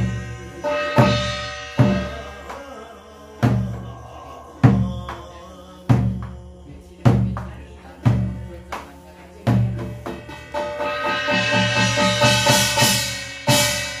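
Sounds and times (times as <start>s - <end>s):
barrel drum beats: 0.0s - 14.0s.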